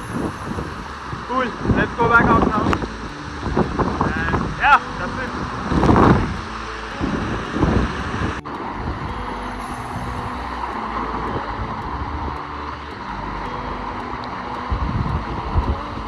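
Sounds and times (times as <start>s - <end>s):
wind buffeting microphone: 0.0s - 12.4s, 14.6s - 16.0s
heavy rain and falling water: 0.0s - 16.0s.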